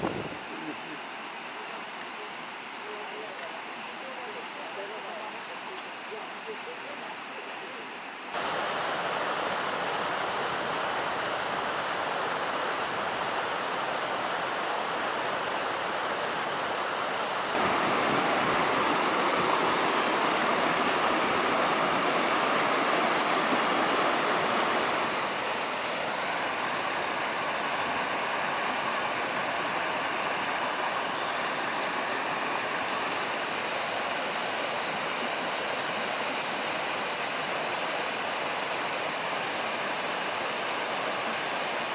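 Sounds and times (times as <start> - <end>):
waterfall rushing: 0.0 - 3.2, 5.6 - 41.9.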